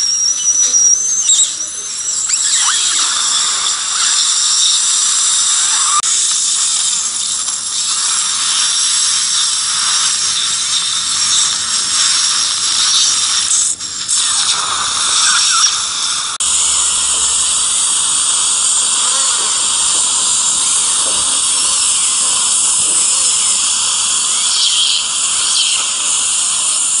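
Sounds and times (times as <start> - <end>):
dental drill whining: 0.0 - 27.0
water spray hiss: 0.0 - 27.0.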